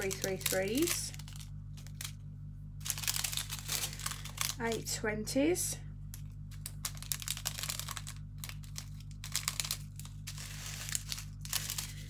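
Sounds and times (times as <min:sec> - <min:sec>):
plastic bags crinkling: 0:00.0 - 0:02.2, 0:02.8 - 0:04.9, 0:06.4 - 0:12.0
faint low hum: 0:00.0 - 0:12.0.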